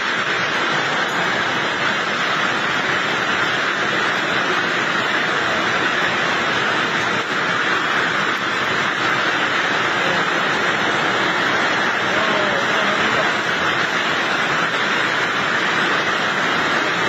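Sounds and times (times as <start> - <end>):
hail and torrential rain: 0.0 - 17.0
strong wind: 0.0 - 17.0.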